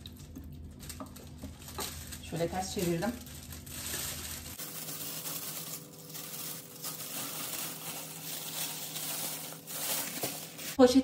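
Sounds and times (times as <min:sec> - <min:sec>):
plastic bag crinkling: 0:00.1 - 0:11.0.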